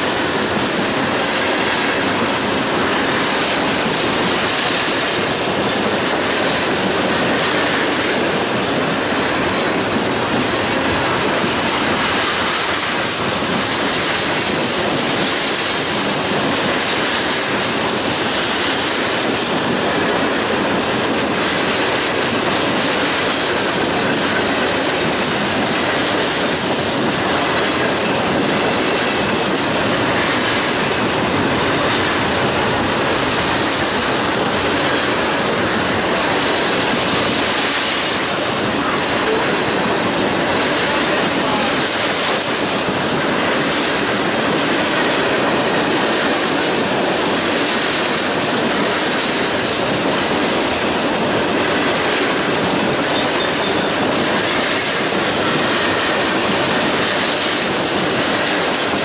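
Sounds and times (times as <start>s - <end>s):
train cars rolling past: 0.0s - 59.0s
wheels clicking over rail joints: 0.0s - 59.0s.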